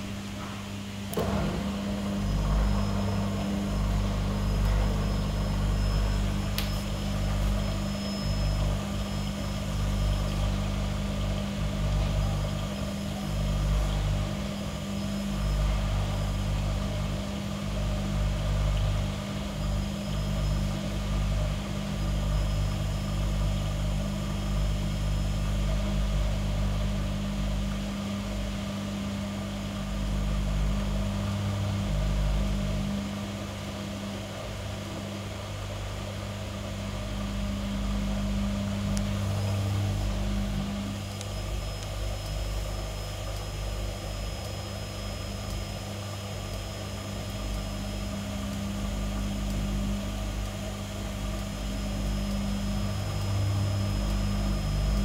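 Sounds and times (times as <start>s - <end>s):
vacuum cleaner humming: 0.0s - 26.6s, 27.6s - 55.0s
washing machine spin rumble: 0.0s - 55.0s.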